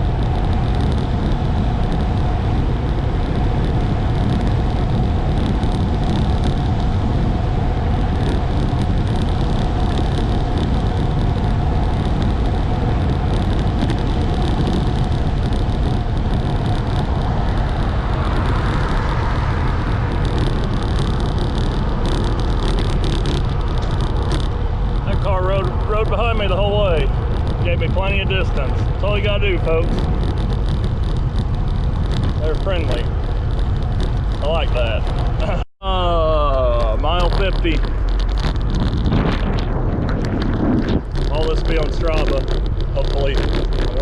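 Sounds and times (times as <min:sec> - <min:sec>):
bicycle tyre noise: 0:00.0 - 0:44.0
wind rushing over microphone: 0:00.0 - 0:44.0.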